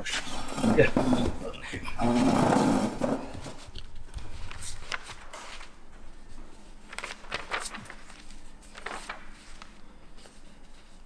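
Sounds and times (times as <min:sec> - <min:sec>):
paper and packaging rustling: 0:00.0 - 0:11.0.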